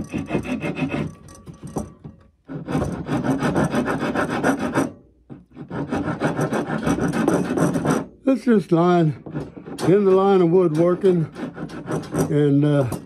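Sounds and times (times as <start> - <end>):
wood rasp filing wood: 0.0 - 13.0.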